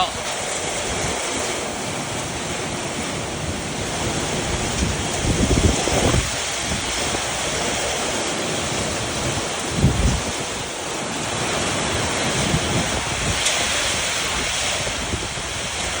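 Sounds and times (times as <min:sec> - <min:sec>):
wind buffeting microphone: 0:00.0 - 0:16.0
wind rushing: 0:00.0 - 0:16.0.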